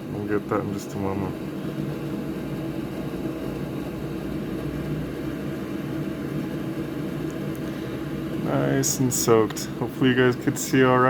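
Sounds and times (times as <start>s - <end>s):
fan motor humming: 0.0s - 11.0s.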